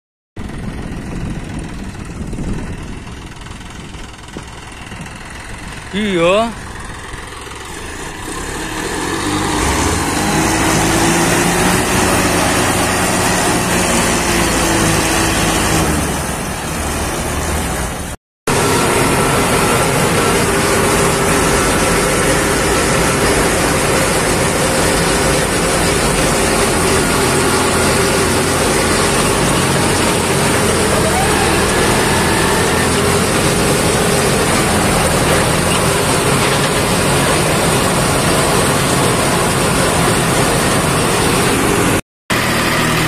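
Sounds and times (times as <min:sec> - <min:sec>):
heavy diesel engine revving: 0:00.9 - 0:43.0.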